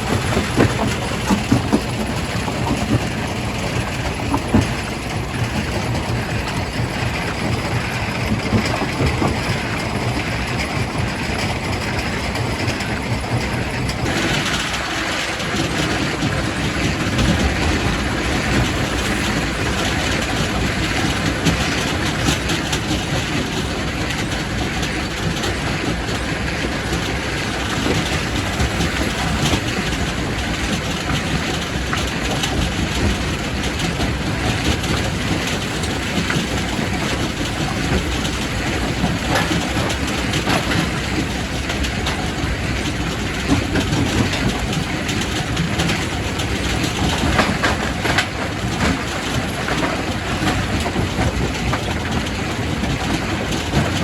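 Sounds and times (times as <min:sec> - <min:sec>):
rock crusher grinding rumble: 0:00.0 - 0:54.0.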